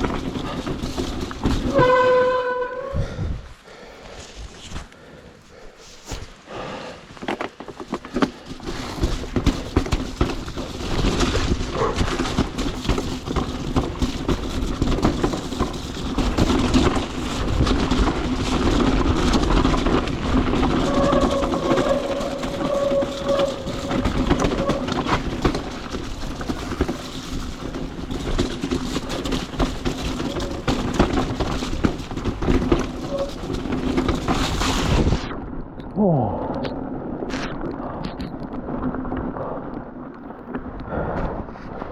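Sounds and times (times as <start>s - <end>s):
wind noise on microphone: 0.0s - 3.6s, 8.7s - 41.9s
bike rattling over rough ground: 0.0s - 35.8s, 36.7s - 41.9s.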